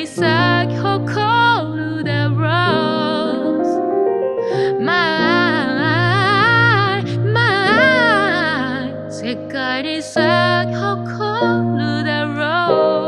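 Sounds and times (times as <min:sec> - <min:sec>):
soft piano and keyboard: 0:00.0 - 0:13.0.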